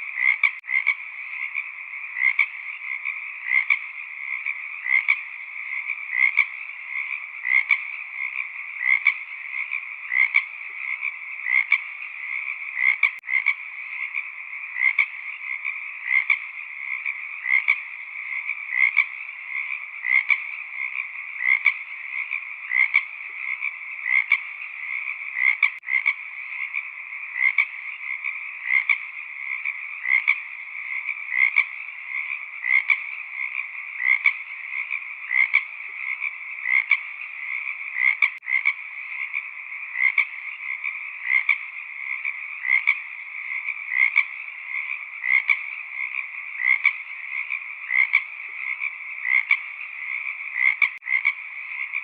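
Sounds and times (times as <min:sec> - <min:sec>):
frog chorus: 0:00.0 - 0:52.0
loud frog calls: 0:00.0 - 0:52.0.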